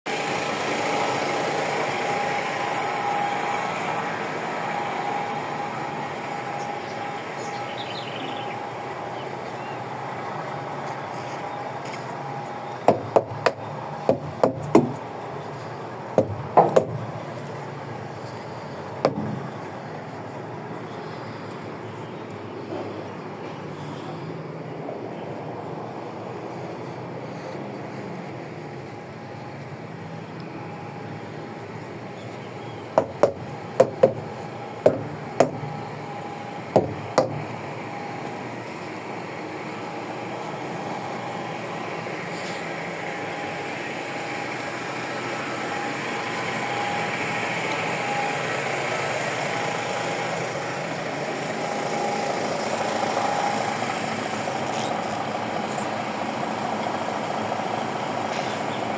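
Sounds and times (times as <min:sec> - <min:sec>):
truck engine running: 0:00.1 - 0:58.9.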